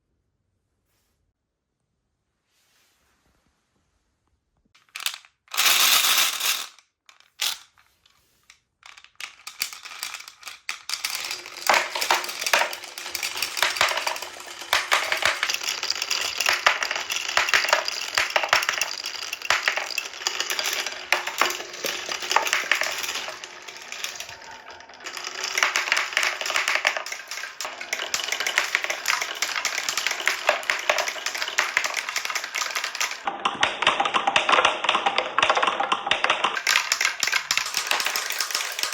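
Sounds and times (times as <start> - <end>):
marbles clattering on wood: 4.8 - 7.7, 8.8 - 38.9.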